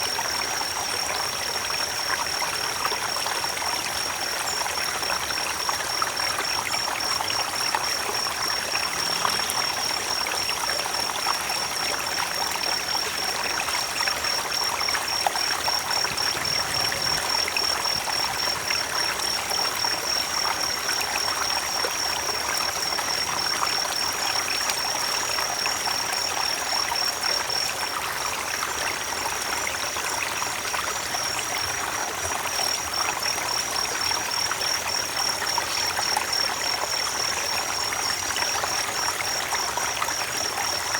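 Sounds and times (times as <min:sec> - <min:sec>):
creek water over stones: 0:00.0 - 0:40.9.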